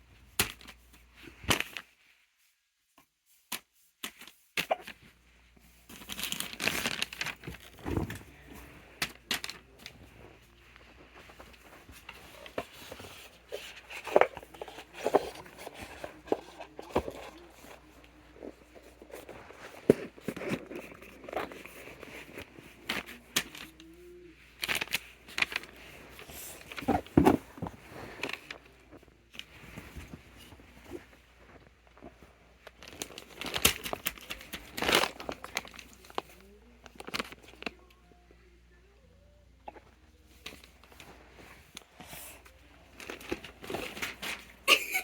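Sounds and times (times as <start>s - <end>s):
crinkling rustles: 0.0s - 38.0s, 39.6s - 45.0s.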